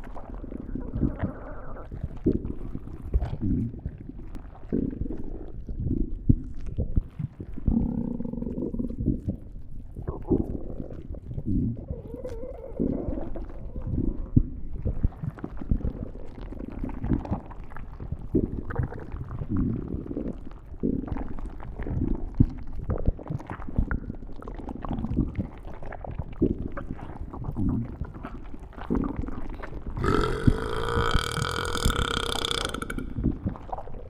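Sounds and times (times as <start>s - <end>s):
stomach growling: 0.0s - 34.0s.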